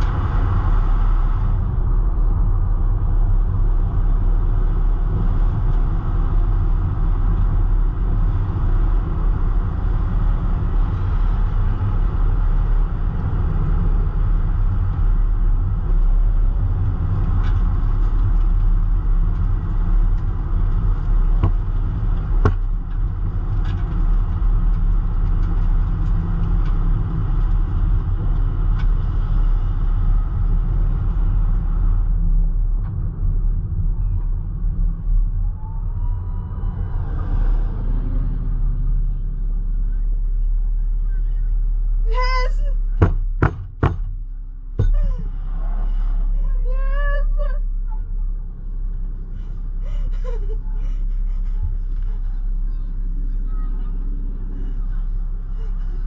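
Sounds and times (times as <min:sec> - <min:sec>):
stock car engines rumbling: 0:00.0 - 0:56.0.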